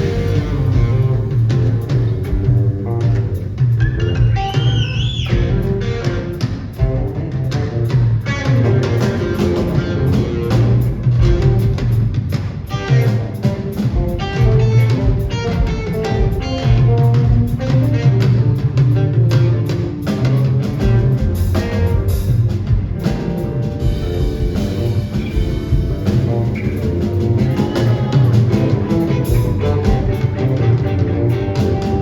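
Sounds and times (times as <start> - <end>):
bass guitar: 0.0 - 32.0
drum kit: 0.0 - 32.0
electric guitar lead: 0.0 - 32.0.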